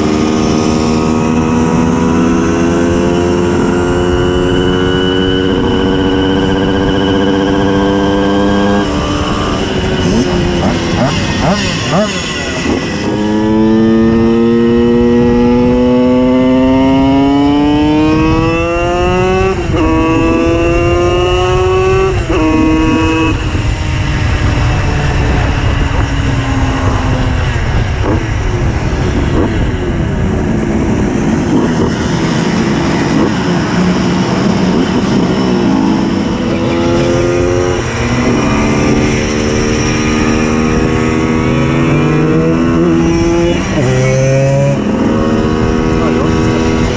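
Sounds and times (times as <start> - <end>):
moped engine accelerating: 0.0 - 46.9.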